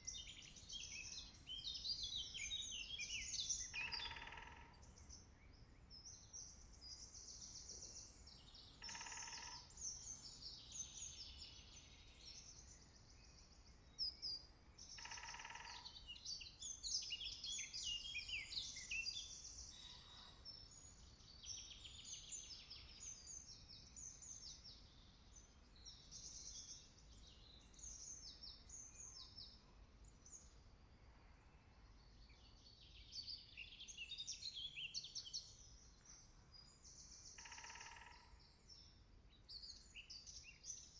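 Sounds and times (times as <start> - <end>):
songbirds chirping and warbling: 0.0 - 40.9.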